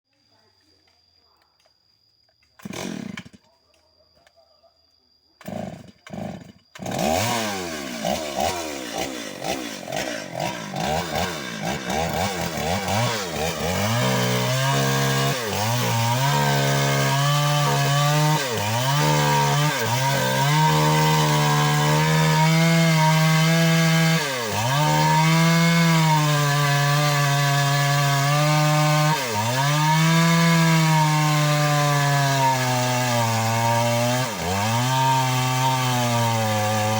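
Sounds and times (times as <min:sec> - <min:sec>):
chainsaw revving and cutting wood: 0:02.6 - 0:03.4, 0:05.4 - 0:36.9.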